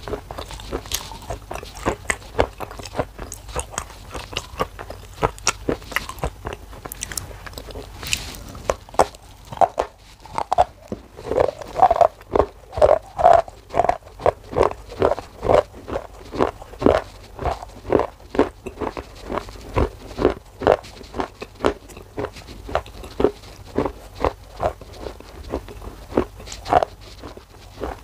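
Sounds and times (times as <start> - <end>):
chewing crisp clay crunches: 0.0 - 28.0.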